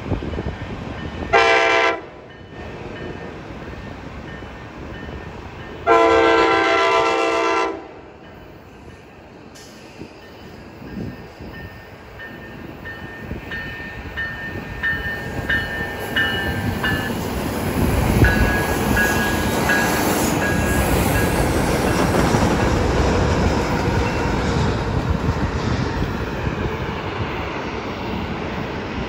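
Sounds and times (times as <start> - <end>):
train rumble and wheel clatter: 0.0 - 29.0.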